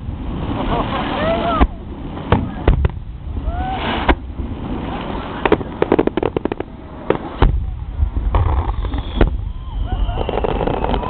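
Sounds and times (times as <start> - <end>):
crackling firework reports: 0.0 - 11.0
firework booms with low rumble: 1.6 - 11.0.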